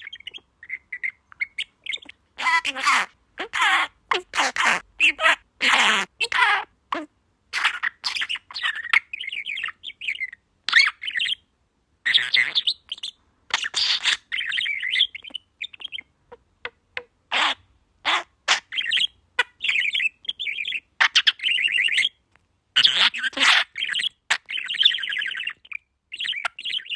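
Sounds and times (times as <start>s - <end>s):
talking bird chattering: 0.0s - 11.4s, 12.0s - 22.2s, 22.8s - 26.9s.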